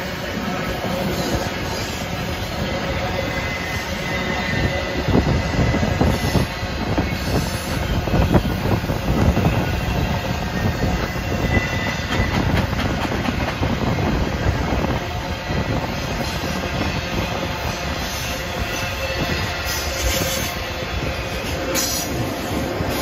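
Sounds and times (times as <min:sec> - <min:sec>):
freight train wheels rumbling: 0:00.0 - 0:23.0
high wheel squeal: 0:00.3 - 0:12.8, 0:13.6 - 0:23.0.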